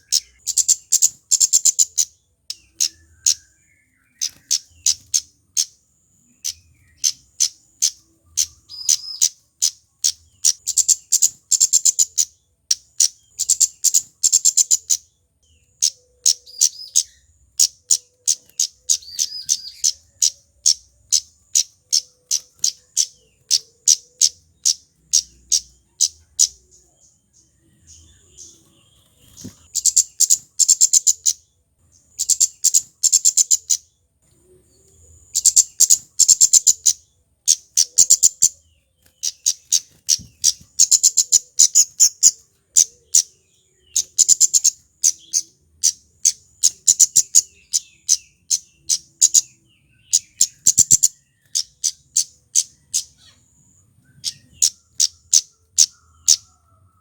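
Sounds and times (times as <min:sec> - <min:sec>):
bird calling high chips: 0:00.0 - 0:26.9, 0:27.9 - 0:31.5, 0:32.1 - 0:34.0, 0:34.8 - 0:56.8.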